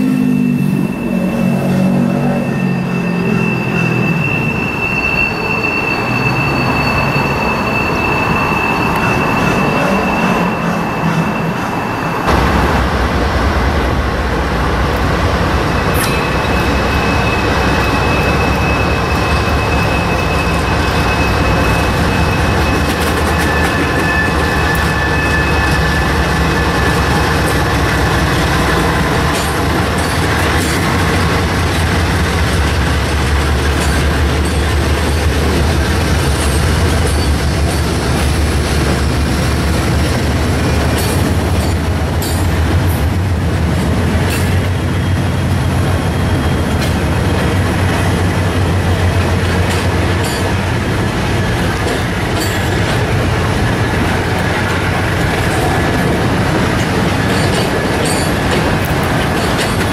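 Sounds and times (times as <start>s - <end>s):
train wheels squealing: 0.0s - 12.4s, 14.6s - 59.9s
diesel locomotive engine drone: 0.0s - 59.9s.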